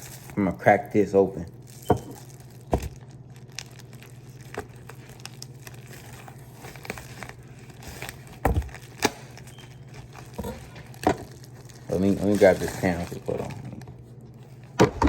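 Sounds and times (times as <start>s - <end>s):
packaging crinkling and tearing: 0.0s - 14.8s
steady low hum: 0.0s - 15.0s.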